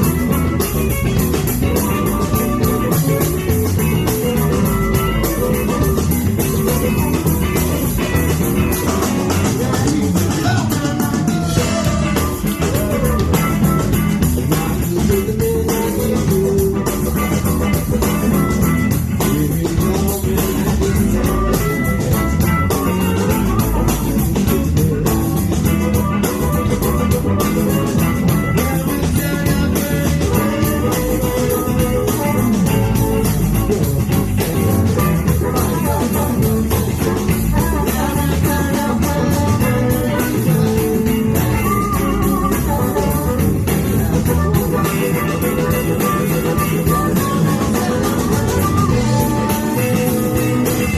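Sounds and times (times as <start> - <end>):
bass guitar: 0.0 - 50.9
drum kit: 0.0 - 50.9
electric guitars: 0.0 - 50.9
melodic lead line: 0.0 - 50.9.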